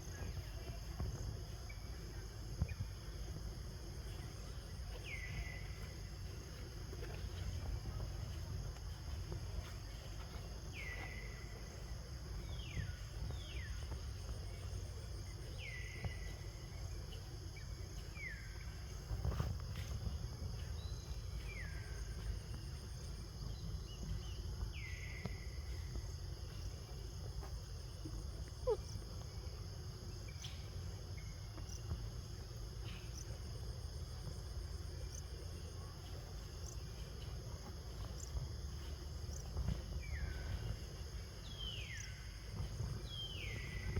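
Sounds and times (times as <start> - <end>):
insect drone: 0.0 - 43.9.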